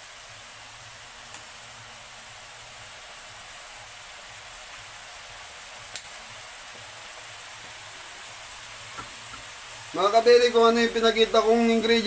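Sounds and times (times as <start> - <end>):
mushrooms sizzling in butter: 0.0 - 12.0.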